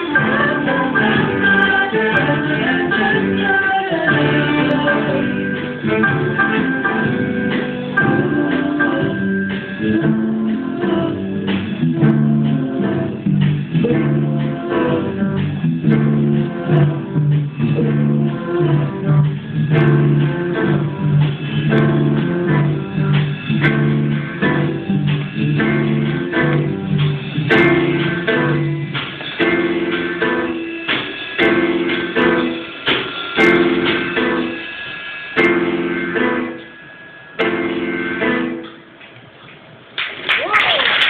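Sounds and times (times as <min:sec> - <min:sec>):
live band playing amplified music: 0:00.0 - 0:39.2.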